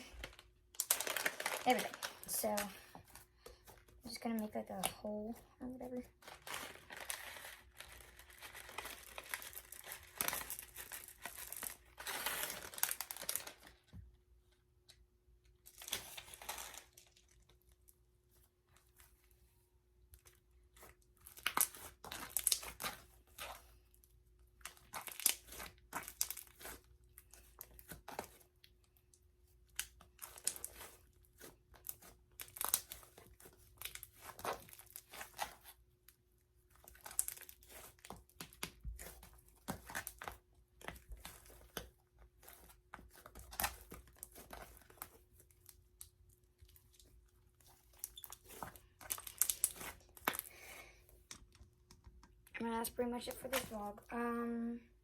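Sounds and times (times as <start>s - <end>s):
slime crackling and squishing: 0.0s - 13.9s, 15.5s - 19.4s, 20.1s - 54.4s.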